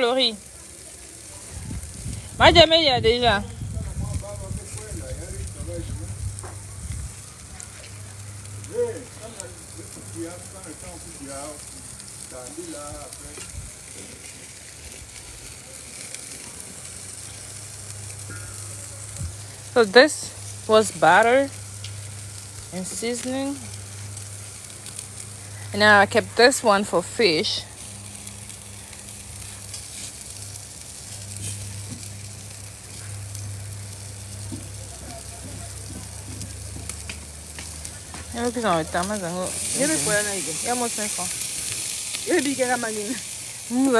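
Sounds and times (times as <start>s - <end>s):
food sizzling in a pan: 0.0s - 43.9s.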